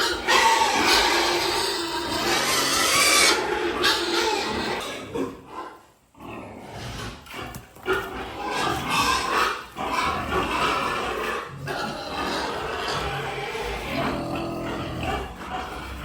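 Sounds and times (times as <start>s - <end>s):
pigs squealing: 0.0s - 16.0s.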